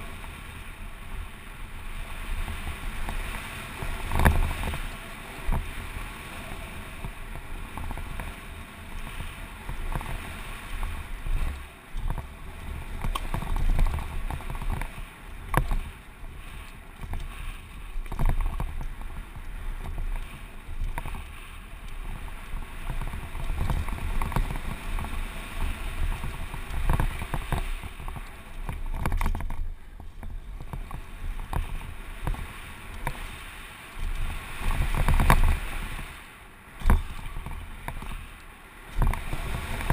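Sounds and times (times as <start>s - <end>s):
tyres crunching on dirt: 0.0s - 39.9s
wind buffeting microphone: 0.0s - 39.9s
bike knocks and rattles: 2.4s - 5.8s, 6.8s - 33.2s, 34.0s - 36.0s, 36.8s - 38.3s.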